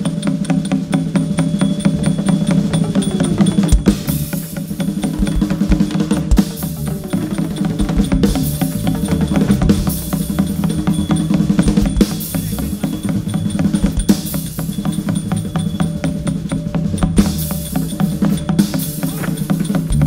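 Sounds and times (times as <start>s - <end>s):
fast percussion music: 0.0s - 20.0s.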